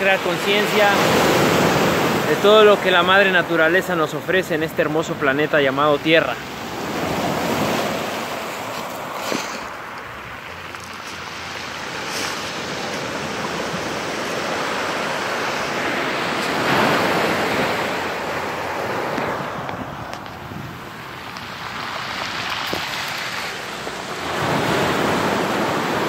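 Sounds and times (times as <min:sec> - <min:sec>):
surf washing on beach: 0:00.0 - 0:26.0.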